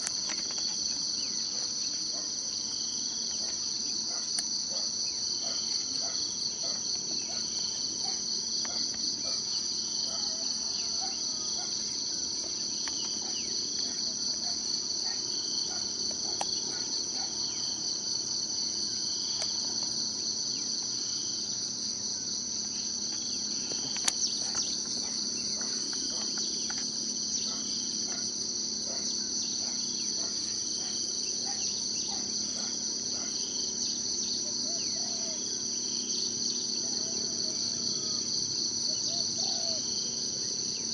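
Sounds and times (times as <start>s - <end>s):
faint insect chirps: 0.0s - 40.9s
insects trilling: 0.0s - 40.9s.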